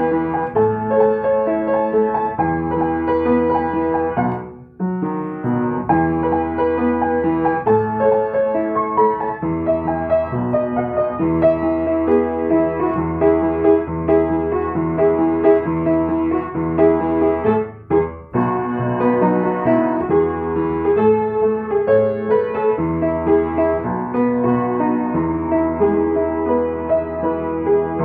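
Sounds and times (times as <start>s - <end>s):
piano melody over chords: 0.0s - 28.0s.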